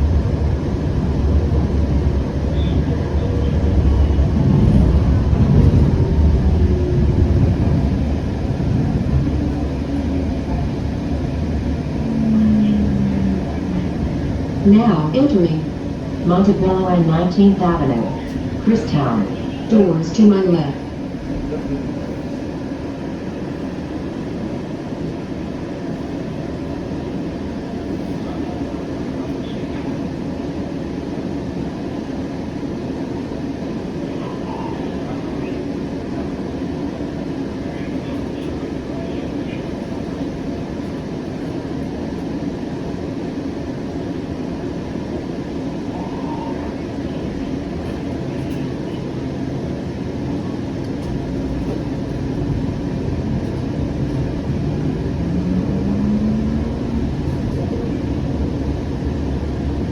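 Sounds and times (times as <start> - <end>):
rail car wheels rumbling: 0.0 - 59.9.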